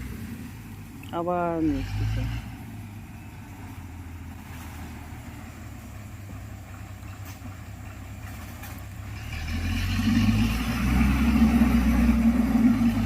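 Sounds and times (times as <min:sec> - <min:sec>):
grader diesel engine running: 0:00.0 - 0:13.0.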